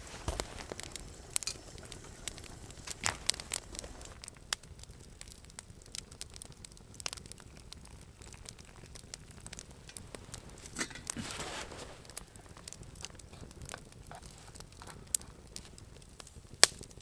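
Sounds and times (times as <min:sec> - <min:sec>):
sharp pops and snaps: 0:00.0 - 0:11.4, 0:12.0 - 0:17.0
campfire crackling: 0:00.0 - 0:17.0.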